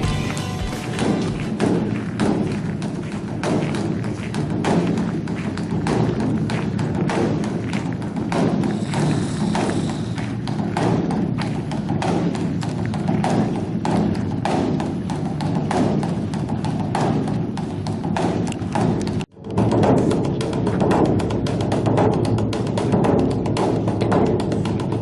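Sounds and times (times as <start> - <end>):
music with dense percussive beat: 0.0 - 25.0.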